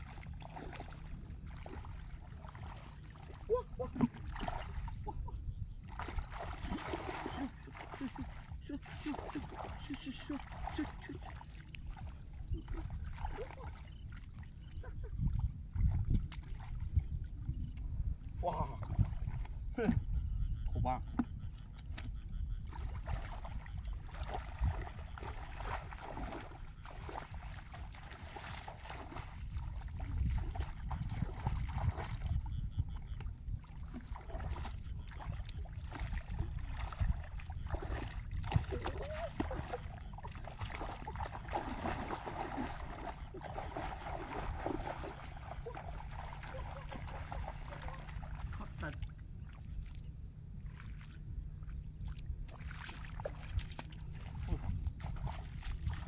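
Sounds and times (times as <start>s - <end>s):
muddy water splashing: 0.0s - 56.0s
steady low rumble: 0.0s - 56.0s.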